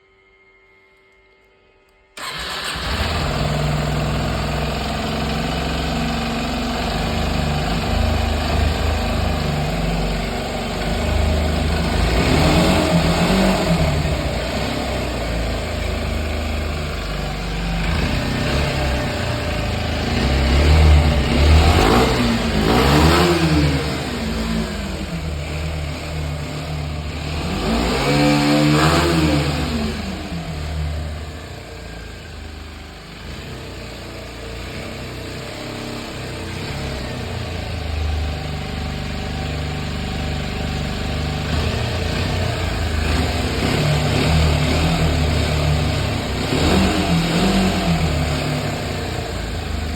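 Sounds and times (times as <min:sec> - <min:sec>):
engine revving from throttle blips: 0:02.2 - 0:49.9
motorcycle engine starting and idling: 0:02.2 - 0:49.9.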